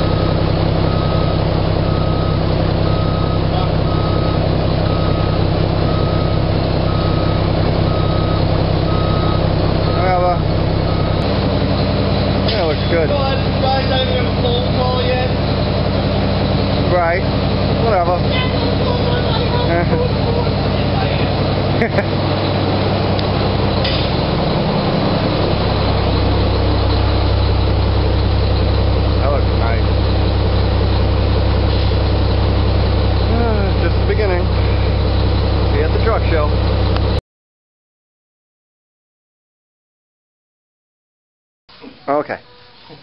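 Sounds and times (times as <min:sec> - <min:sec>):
reversing alarm beeping: 0:00.0 - 0:37.0
diesel truck engine running: 0:00.0 - 0:37.2.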